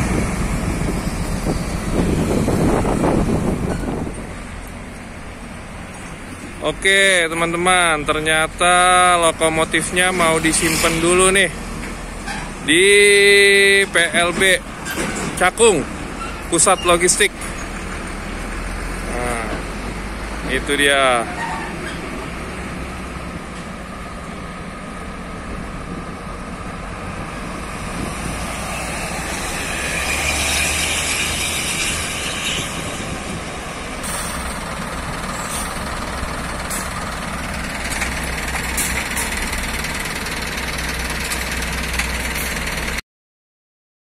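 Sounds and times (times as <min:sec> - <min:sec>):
truck diesel engine running: 0:00.0 - 0:43.0.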